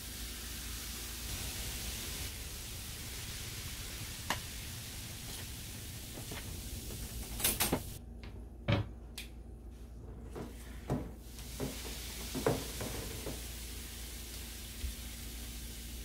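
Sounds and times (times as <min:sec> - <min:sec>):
steady hiss: 0:00.0 - 0:08.0, 0:11.2 - 0:16.0.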